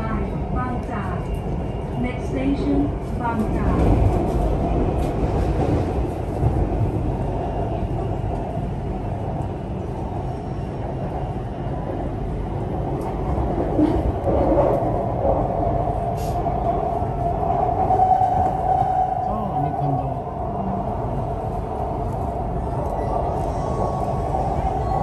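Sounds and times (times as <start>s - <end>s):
train rumble inside carriage: 0.0s - 25.0s.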